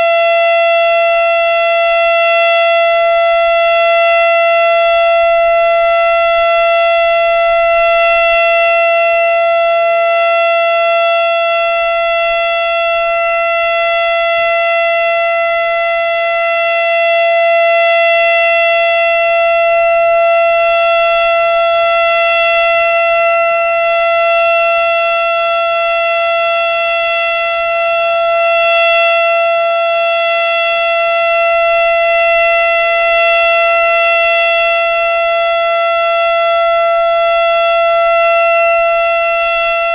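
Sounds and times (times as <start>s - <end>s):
steady siren tone: 0.0s - 39.9s.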